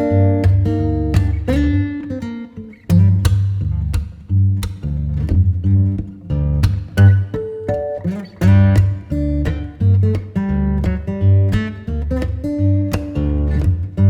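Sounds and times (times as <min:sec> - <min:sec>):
bass line: 0:00.0 - 0:02.1, 0:02.9 - 0:07.4, 0:08.4 - 0:14.0
acoustic guitar picked and strummed: 0:00.0 - 0:14.0.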